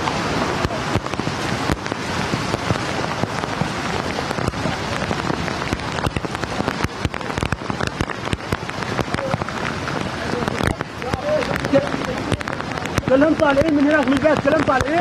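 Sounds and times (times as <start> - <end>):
heavy rain pouring: 0.0 - 15.0
raindrops tapping hard surfaces: 0.0 - 15.0.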